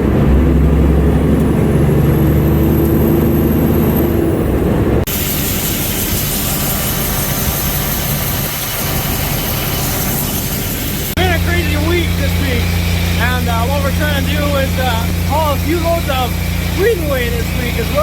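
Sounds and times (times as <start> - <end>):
truck engine driving: 0.0 - 18.0.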